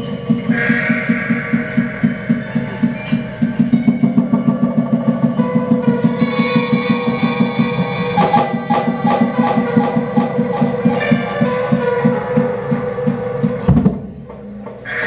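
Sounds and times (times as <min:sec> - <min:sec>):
steady ringing tones: 0:00.0 - 0:13.7
fast percussive pulse: 0:00.0 - 0:13.8
sharp percussive strikes: 0:00.0 - 0:13.8.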